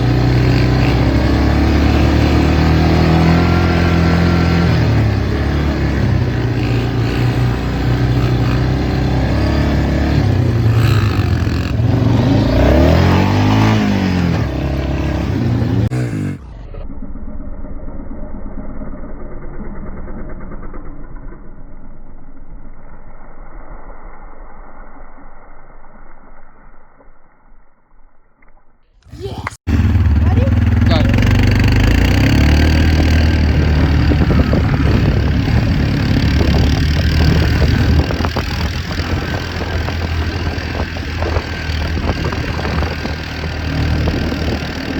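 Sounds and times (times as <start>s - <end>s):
vehicle engine running: 0.0s - 22.7s, 29.6s - 44.9s.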